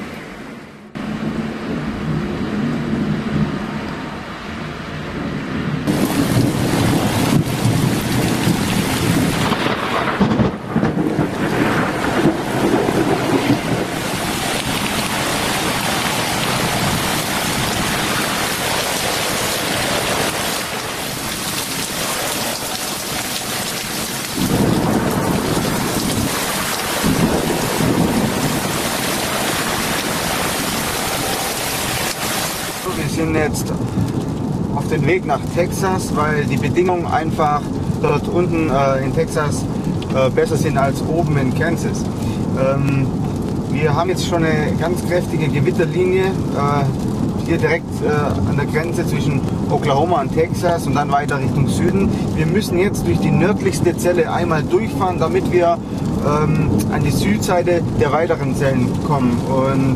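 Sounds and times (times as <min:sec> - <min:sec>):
low rolling thunder: 0:00.9 - 0:59.9
torrential rain hissing: 0:05.8 - 0:59.9.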